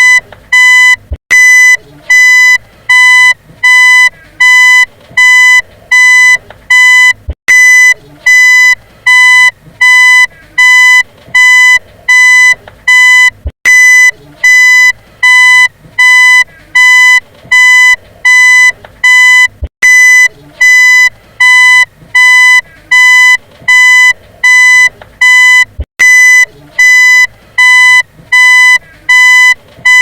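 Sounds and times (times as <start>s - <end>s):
reversing beeper: 0.0s - 30.0s.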